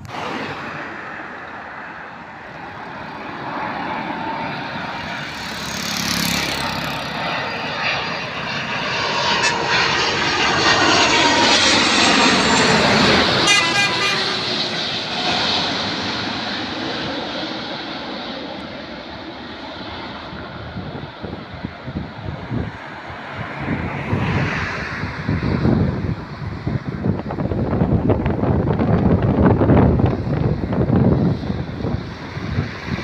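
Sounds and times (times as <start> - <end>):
jet engines whining overhead: 0.0 - 33.0.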